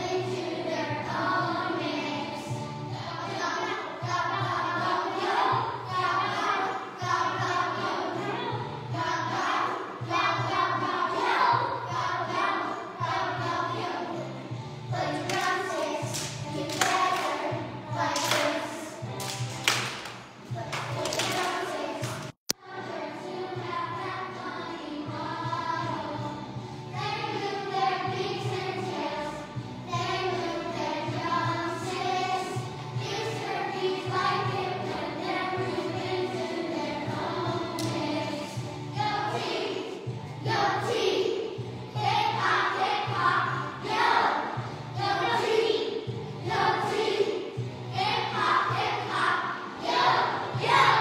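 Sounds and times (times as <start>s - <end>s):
children singing: 0.0s - 19.2s, 20.5s - 51.0s
recorded music accompaniment: 0.0s - 51.0s.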